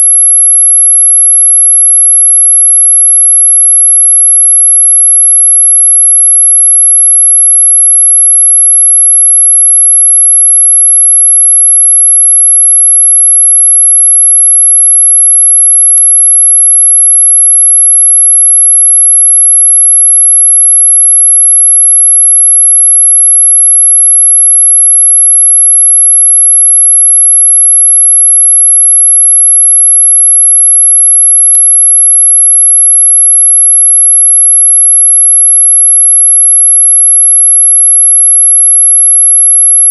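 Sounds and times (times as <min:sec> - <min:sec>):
high-pitched steady whistle: 0:00.0 - 0:39.9.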